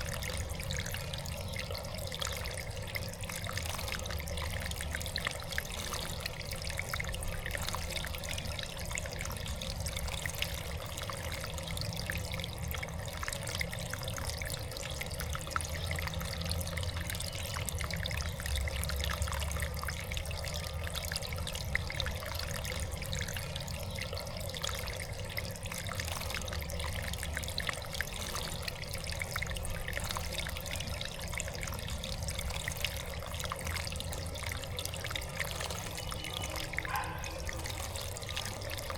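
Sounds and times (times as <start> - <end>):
low steady hum: 0.0 - 38.9
water trickling and splashing: 0.0 - 38.9.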